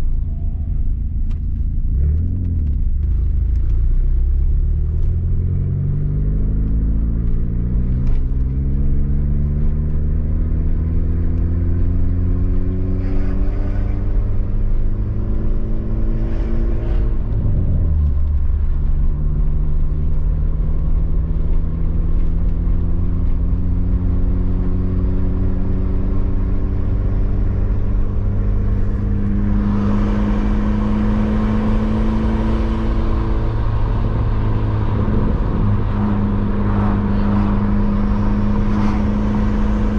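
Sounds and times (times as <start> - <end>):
car engine accelerating: 0.0 - 39.9
road and wind noise: 0.0 - 39.9.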